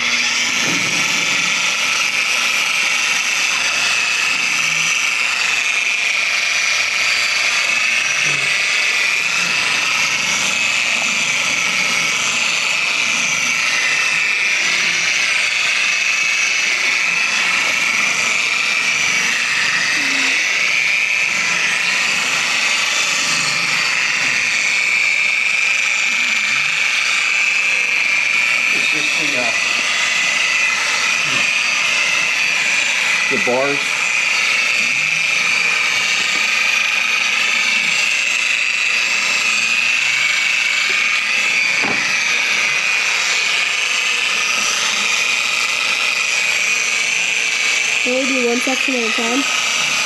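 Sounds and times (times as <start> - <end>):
electric buffer motor whine: 0.0 - 50.0.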